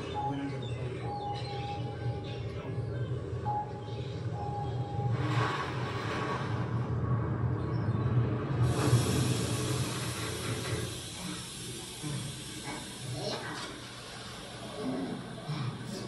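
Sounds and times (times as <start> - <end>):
underwater low rumble with hiss: 2.1 - 16.0.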